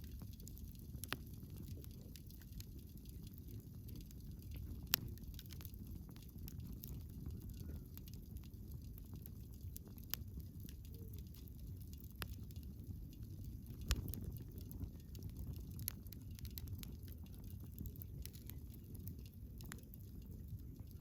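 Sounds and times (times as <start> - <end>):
campfire rushing: 0.0 - 21.0
fire crackles and pops: 0.0 - 21.0.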